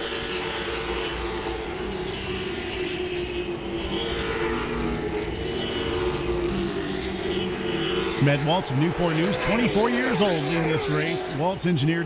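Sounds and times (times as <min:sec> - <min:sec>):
race car engines droning: 0:00.0 - 0:12.0.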